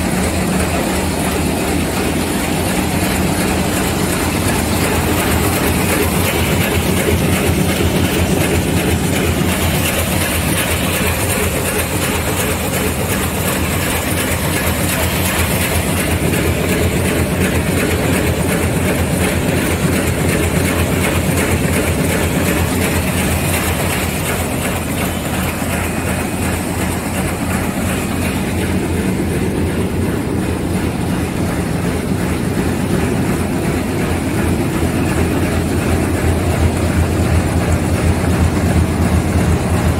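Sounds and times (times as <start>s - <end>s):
sewing machine clattering: 0.0s - 39.9s.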